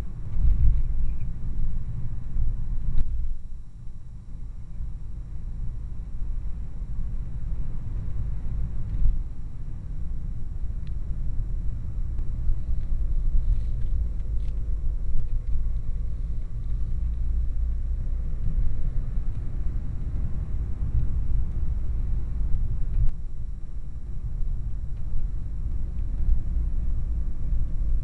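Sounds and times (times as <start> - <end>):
car engine and tyre noise: 0.0 - 28.0.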